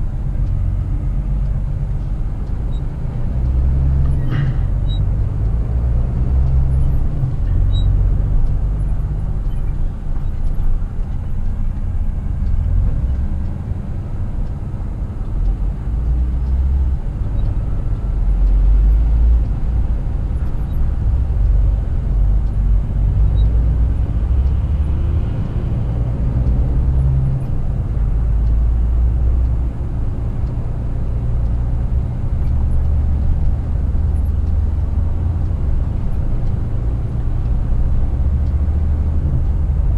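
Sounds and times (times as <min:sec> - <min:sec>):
road rumble: 0:00.0 - 0:39.9
truck diesel engine rumble: 0:00.0 - 0:39.9.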